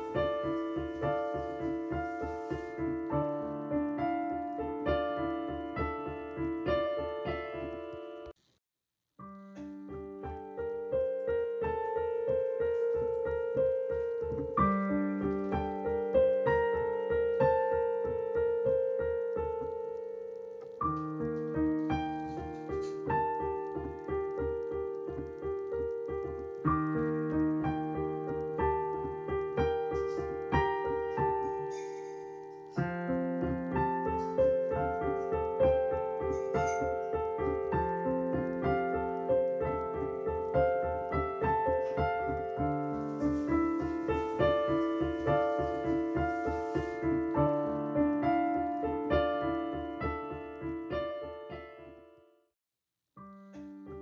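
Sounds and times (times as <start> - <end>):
piano music: 0.0 - 8.4, 9.2 - 52.4, 53.2 - 54.0.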